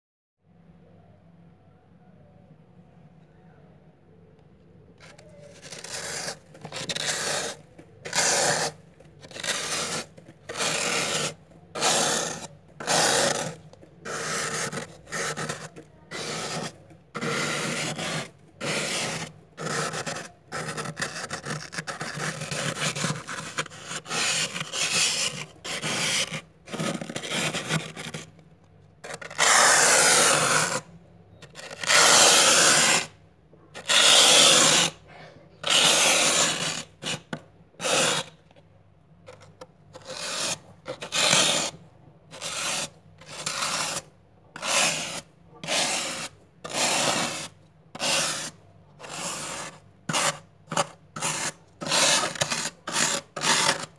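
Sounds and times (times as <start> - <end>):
plastic card scraping frost: 5.0 - 28.4, 29.0 - 38.6, 39.2 - 53.9.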